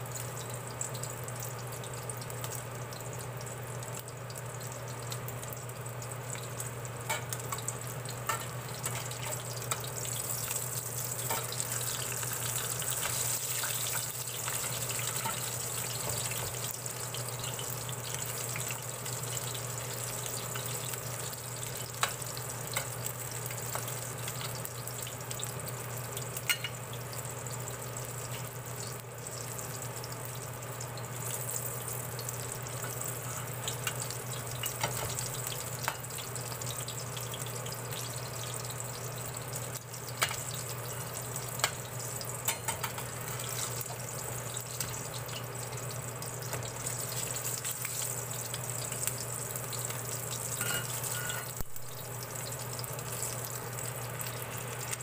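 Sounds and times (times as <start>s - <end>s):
fritters sizzling in hot oil: 0.0s - 55.0s.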